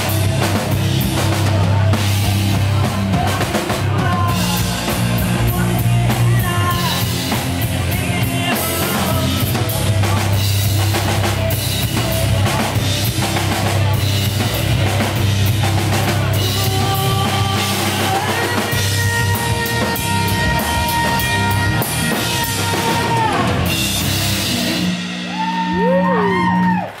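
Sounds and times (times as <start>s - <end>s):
drum kit with cymbals: 0.0s - 26.8s
bass guitar: 0.0s - 27.0s
electric guitar: 0.0s - 27.0s.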